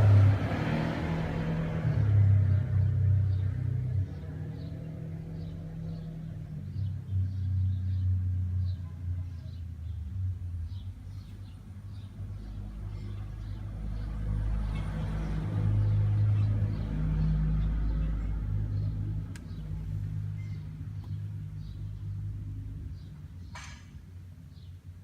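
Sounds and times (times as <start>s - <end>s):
car engine idling: 0.0s - 23.5s.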